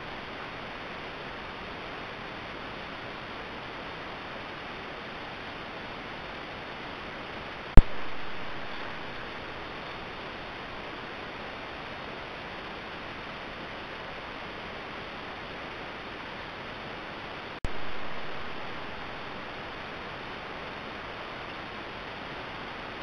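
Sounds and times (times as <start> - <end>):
microphone hiss with high tone: 0.0 - 23.0.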